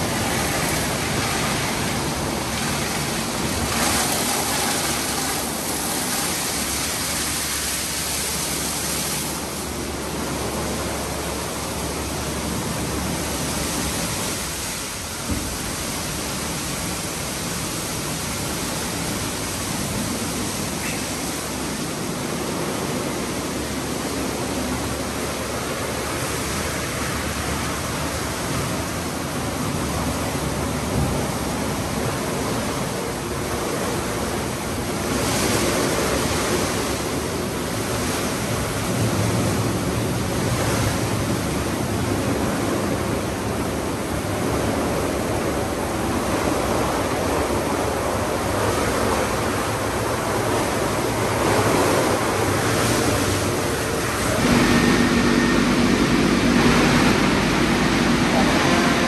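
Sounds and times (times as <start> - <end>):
car wash water spray and brushes: 0.0 - 59.0.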